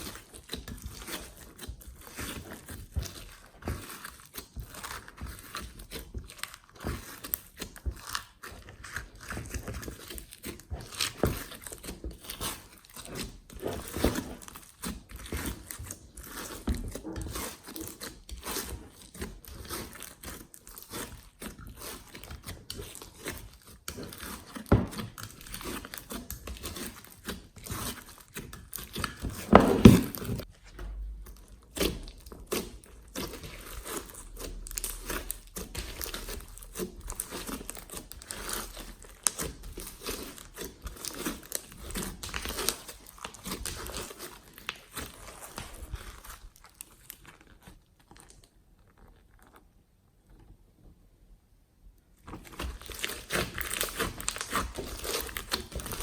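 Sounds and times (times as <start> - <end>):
slime squishing by hand: 0.0 - 50.8, 52.1 - 56.0.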